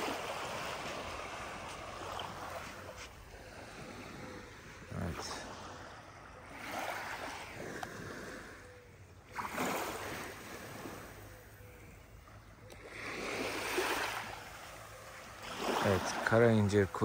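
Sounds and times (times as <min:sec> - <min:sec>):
small waves washing on beach: 0:00.0 - 0:17.0.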